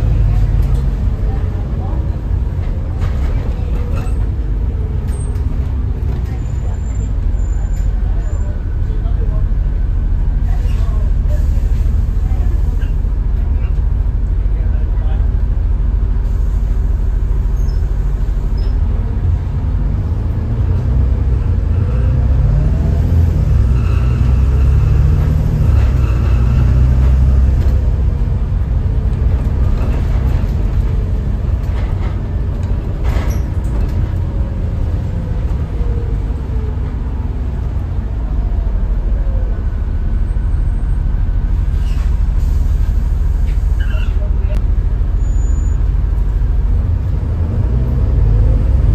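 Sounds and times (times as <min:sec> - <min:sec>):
bus engine droning: 0:00.0 - 0:48.9.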